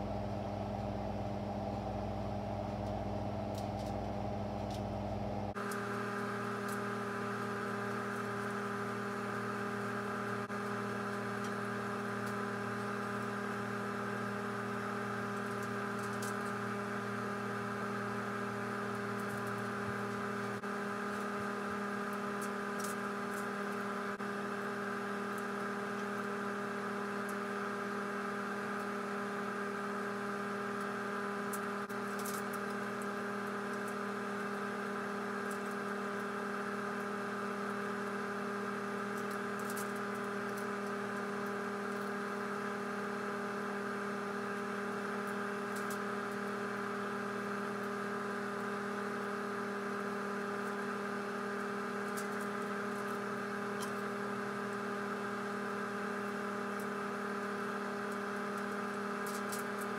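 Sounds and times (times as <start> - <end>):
appliance fan motor hum: 0.0 - 59.9.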